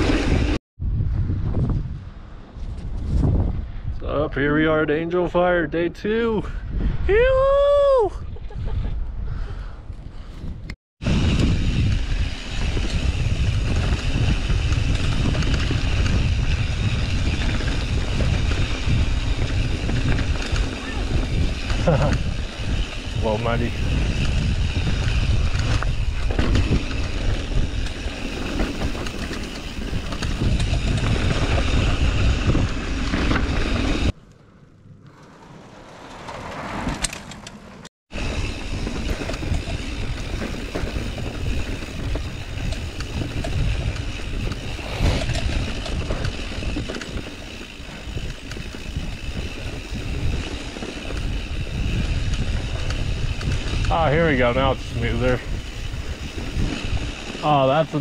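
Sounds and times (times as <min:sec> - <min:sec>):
bike tyre and frame rattle: 0:00.0 - 0:00.6, 0:09.6 - 0:58.0
wind rumble on microphone: 0:00.0 - 0:35.2, 0:38.1 - 0:58.0.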